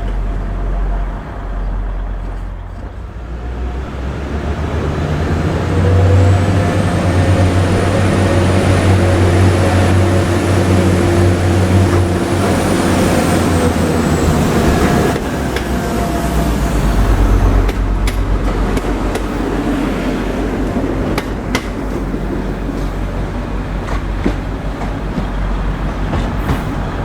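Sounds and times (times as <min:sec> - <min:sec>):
diesel train engine running: 0:00.0 - 0:27.0.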